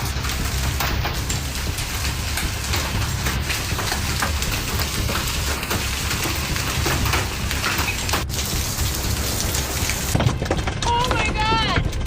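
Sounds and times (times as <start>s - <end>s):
heavy rain pouring: 0.0s - 12.0s
low rumble: 0.0s - 12.0s.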